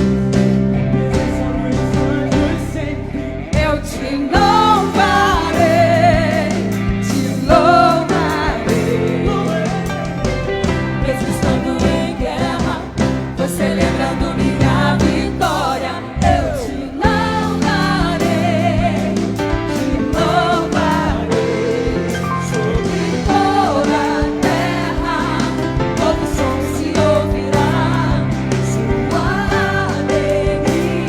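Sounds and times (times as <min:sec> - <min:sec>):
steady drum beat: 0:00.0 - 0:31.0
worship band with singers: 0:00.0 - 0:31.0.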